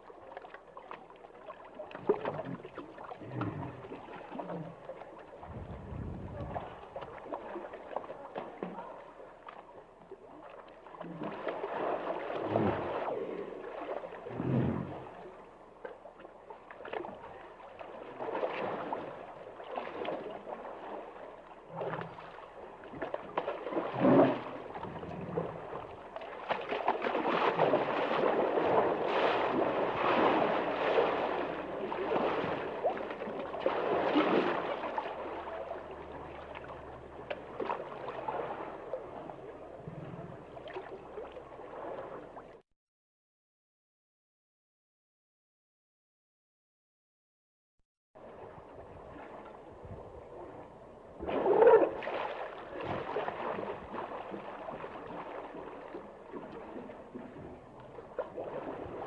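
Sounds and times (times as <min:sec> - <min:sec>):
hippopotamus sloshing in water: 0:00.0 - 0:42.6, 0:51.2 - 0:59.0.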